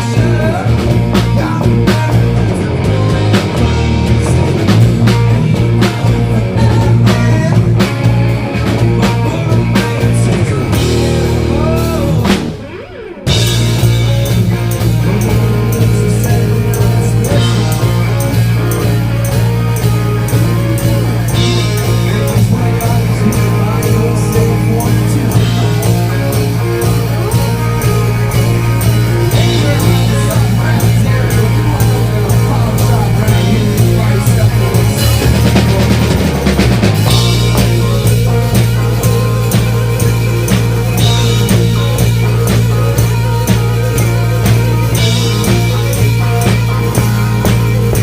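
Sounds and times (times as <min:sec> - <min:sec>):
rock band playing: 0:00.0 - 0:48.0.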